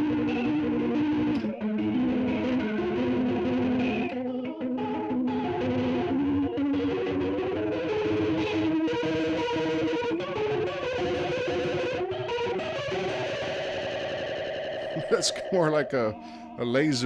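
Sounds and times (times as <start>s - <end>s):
electric guitar with flanger: 0.0s - 17.0s.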